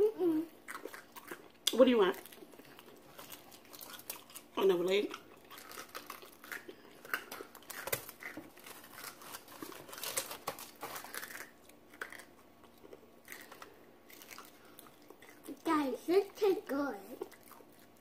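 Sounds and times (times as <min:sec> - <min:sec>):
crunching fried chicken: 0:00.6 - 0:15.5.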